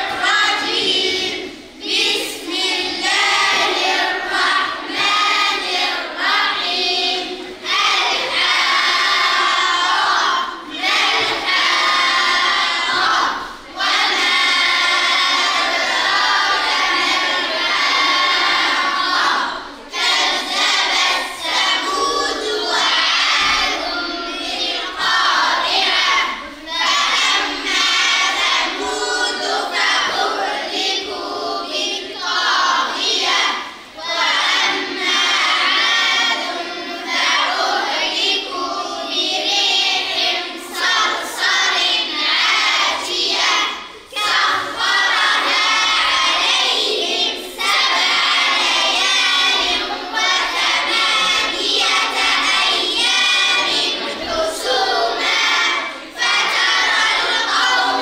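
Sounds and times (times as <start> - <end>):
children chanting together: 0.0 - 58.0.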